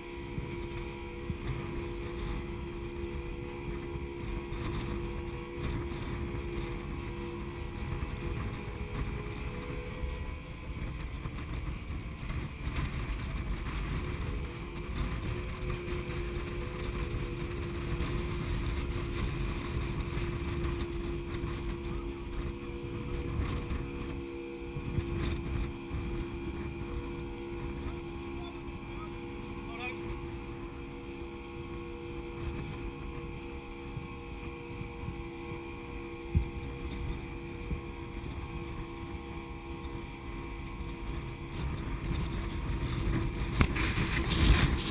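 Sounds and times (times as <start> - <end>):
boat diesel engines droning: 0.0 - 44.9
propeller wash rumble: 0.0 - 44.9
wind on microphone: 0.0 - 44.9.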